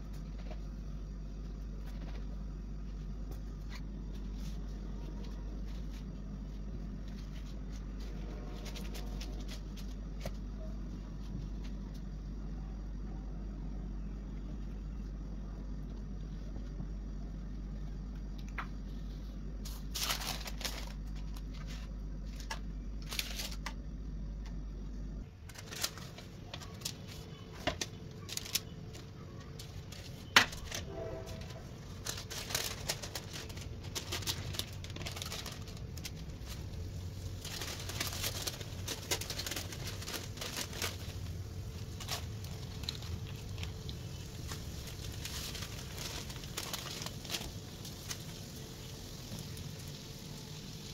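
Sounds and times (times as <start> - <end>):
paper rustling and crinkling: 0.0 - 12.0, 18.6 - 23.8, 25.3 - 50.8
steady low hum: 0.0 - 50.9.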